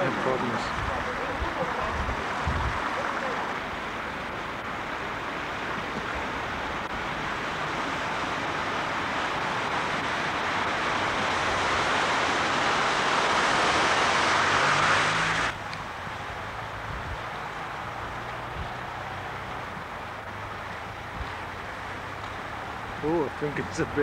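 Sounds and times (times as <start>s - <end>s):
motorcycle riding through water: 0.0s - 24.0s
rushing spray of water: 0.0s - 24.0s.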